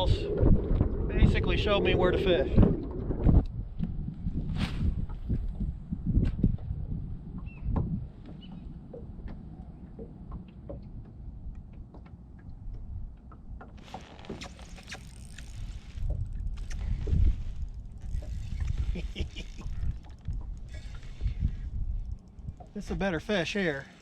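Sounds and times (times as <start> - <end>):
wind rumbling on microphone: 0.0 - 23.8.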